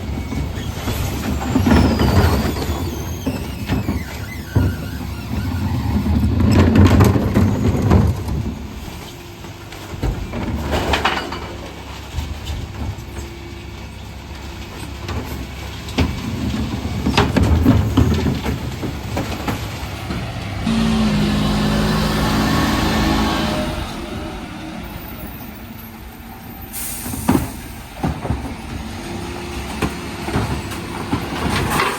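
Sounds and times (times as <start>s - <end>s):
recycling clattering into hopper: 0.0s - 26.2s, 26.8s - 31.9s
refuse truck running: 0.0s - 31.9s.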